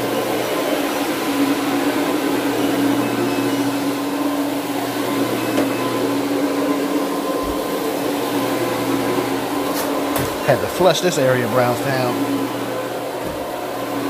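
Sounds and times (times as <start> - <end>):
carpet cleaning machine motor hum: 0.0 - 14.0.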